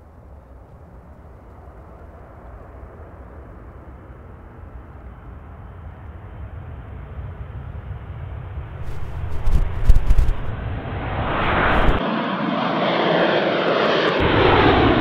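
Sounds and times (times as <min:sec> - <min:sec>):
jet engines rumbling at takeoff: 0:00.0 - 0:15.0.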